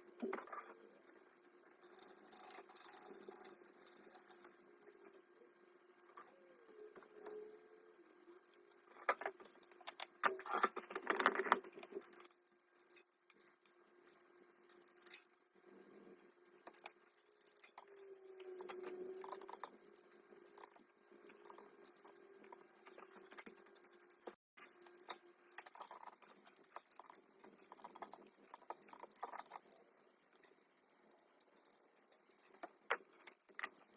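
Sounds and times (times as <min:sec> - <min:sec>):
faint steady hum: 0:00.0 - 0:33.9.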